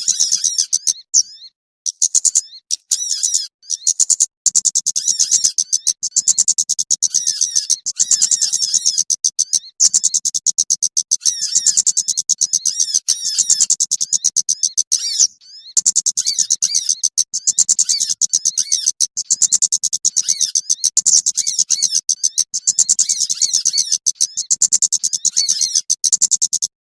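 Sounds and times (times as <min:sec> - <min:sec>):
small birds twittering: 0:00.0 - 0:26.7.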